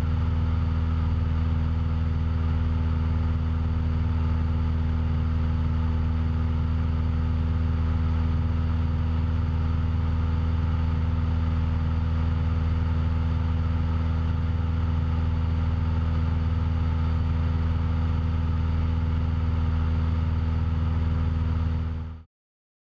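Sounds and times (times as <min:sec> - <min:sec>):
light aircraft engine and propeller: 0:00.0 - 0:22.2.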